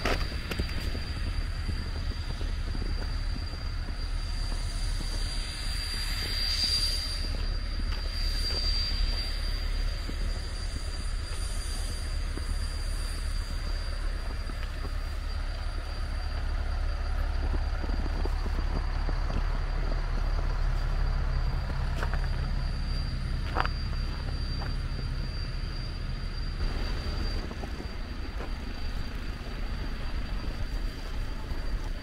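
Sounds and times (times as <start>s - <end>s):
faint high whine: 0.0s - 32.0s
steady low rumble: 0.0s - 32.0s.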